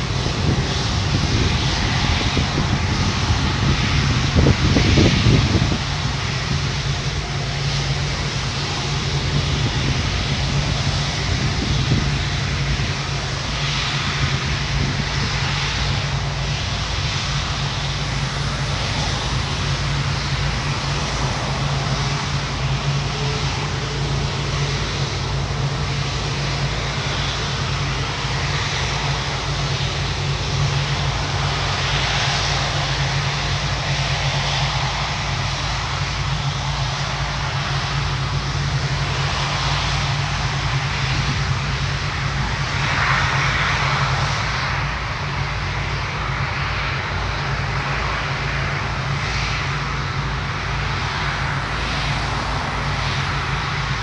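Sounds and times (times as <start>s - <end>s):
jet engine drone: 0.0s - 54.0s
low hum: 0.0s - 54.0s.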